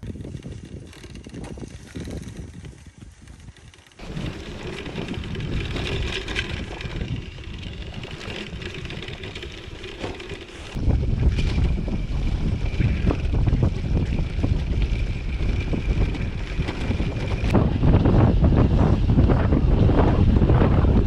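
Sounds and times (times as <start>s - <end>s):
bicycle rolling on dirt track: 0.0s - 21.0s
wind rumbling on microphone: 0.0s - 21.0s.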